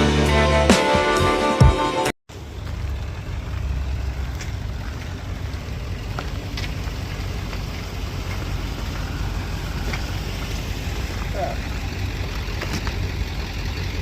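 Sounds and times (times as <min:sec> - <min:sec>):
pickup truck engine rumble: 0:02.3 - 0:14.0.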